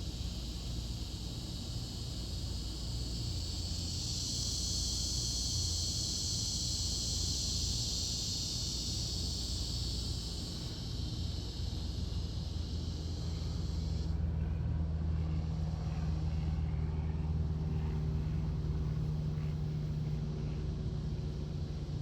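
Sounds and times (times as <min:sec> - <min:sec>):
insects buzzing: 0:00.0 - 0:14.4, 0:17.2 - 0:22.0
low steady rumble: 0:00.0 - 0:22.0.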